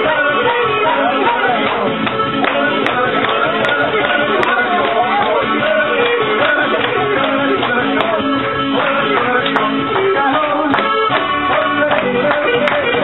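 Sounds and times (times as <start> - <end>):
live band playing folk-pop: 0.0 - 13.0.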